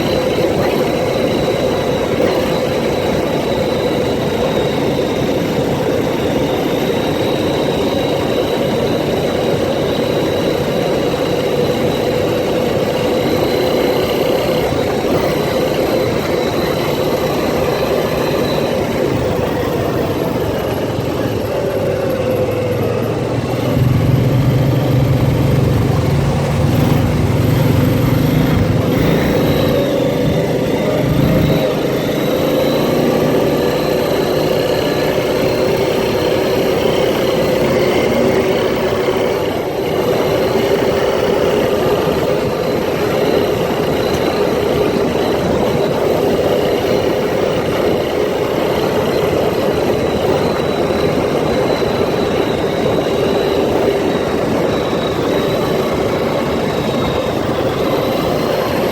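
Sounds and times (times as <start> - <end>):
atv engine rumbling: 0.0 - 58.9.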